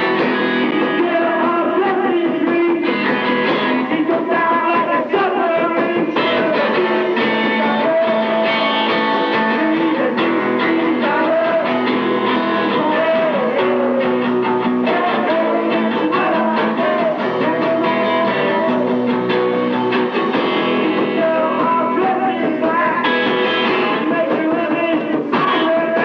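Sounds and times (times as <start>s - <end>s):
guitar: 0.0s - 26.0s
live band playing upbeat song: 0.0s - 26.0s
person singing: 0.0s - 26.0s.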